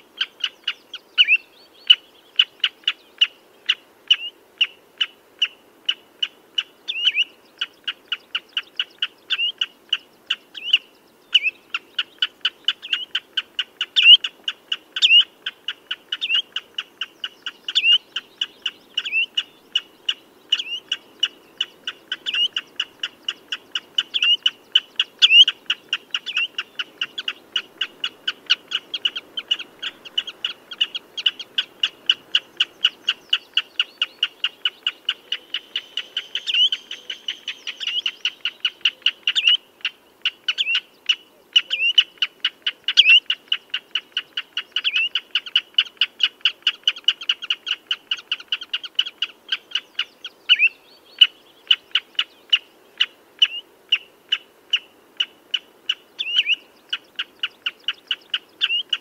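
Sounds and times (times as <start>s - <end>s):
bird piping calls: 0.0s - 59.0s.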